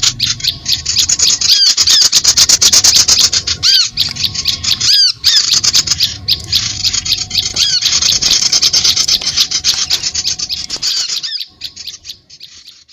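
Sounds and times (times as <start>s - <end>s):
small birds chirping in chorus: 0.0s - 12.9s.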